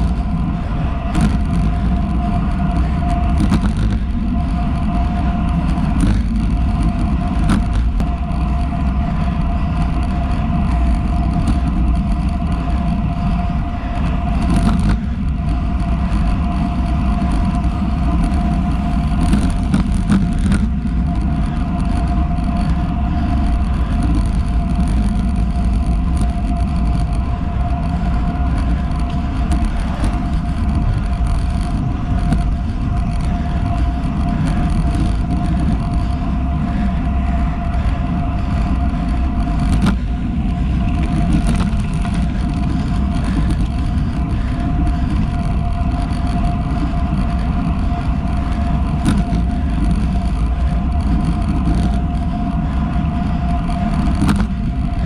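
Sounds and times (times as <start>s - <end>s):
bike tyres rolling on asphalt: 0.0s - 55.0s
steady high hum: 0.0s - 55.0s
wind rushing over microphone: 0.0s - 55.0s.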